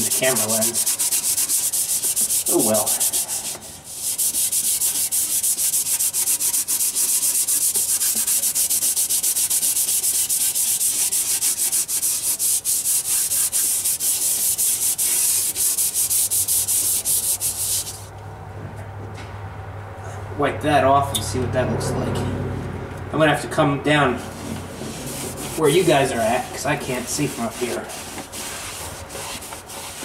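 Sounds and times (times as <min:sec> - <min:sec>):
scrubbing pad rasping on metal: 0:00.0 - 0:18.1, 0:24.1 - 0:30.0.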